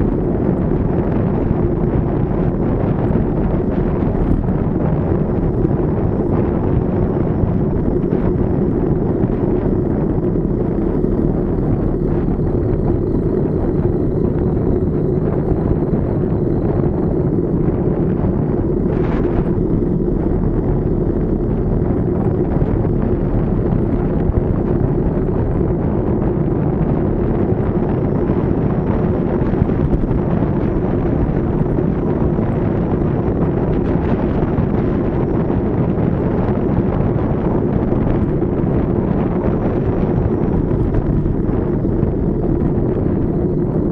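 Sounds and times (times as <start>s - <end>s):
low rumble: 0.0s - 43.9s
wind rushing over microphone: 0.0s - 43.9s.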